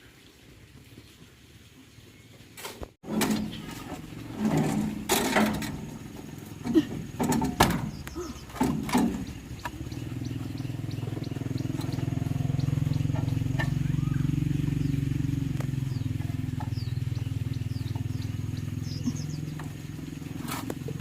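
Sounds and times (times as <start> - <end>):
old tractor engine sputtering: 3.0 - 21.0.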